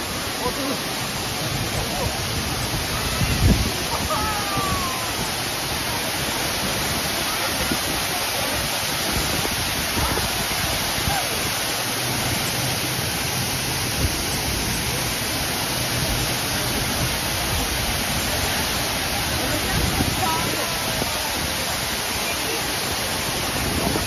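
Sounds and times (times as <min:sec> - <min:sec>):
waterfall rushing into pool: 0:00.0 - 0:24.0.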